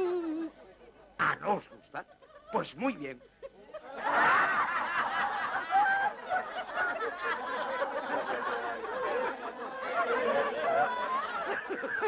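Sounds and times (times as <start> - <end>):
room of people laughing: 0.5 - 12.0.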